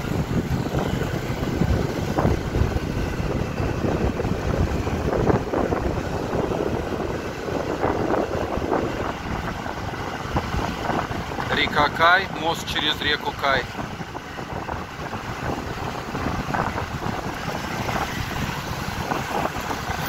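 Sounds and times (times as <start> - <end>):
motorbike engine hum: 0.0 - 20.0
wind buffeting microphone: 0.0 - 20.0.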